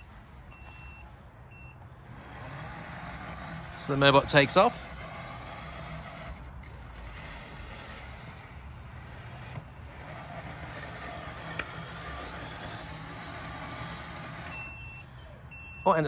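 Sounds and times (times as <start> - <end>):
robotic lawn mower humming: 0.0 - 16.0.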